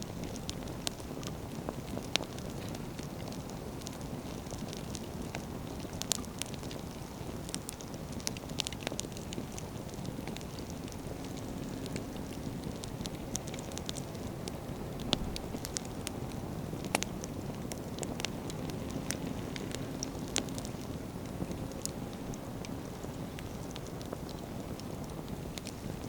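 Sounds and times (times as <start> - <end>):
burning wood crackling and popping: 0.0 - 26.0
bonfire flame rushing: 0.1 - 26.0.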